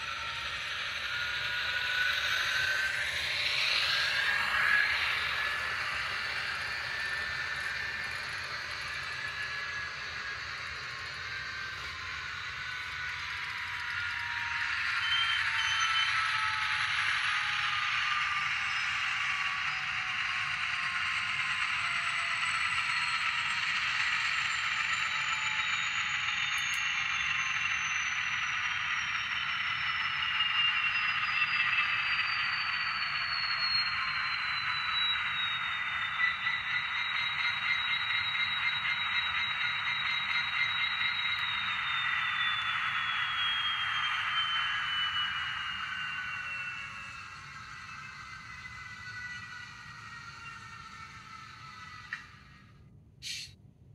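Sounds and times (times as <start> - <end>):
model diesel engine sound: 0.0 - 53.5.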